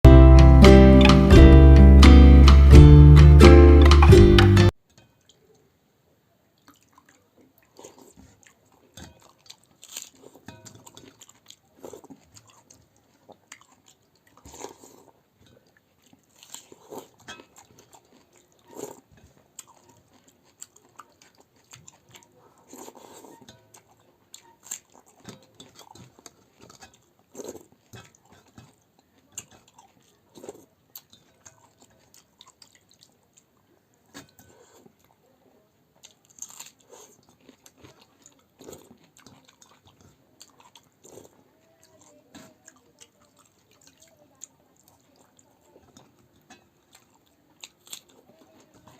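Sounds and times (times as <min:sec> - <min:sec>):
person chewing and crunching: 0:06.6 - 0:35.3, 0:35.9 - 0:48.9.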